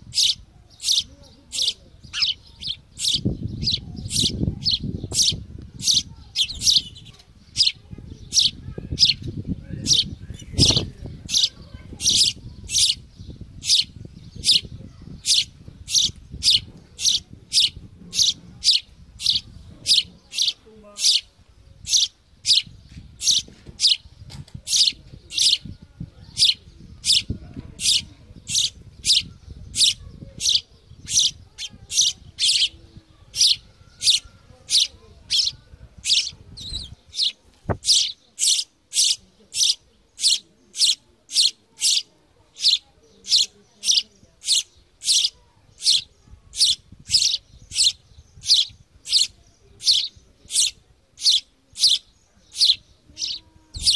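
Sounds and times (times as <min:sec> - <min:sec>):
bird chicks chirping: 0:00.0 - 0:53.9.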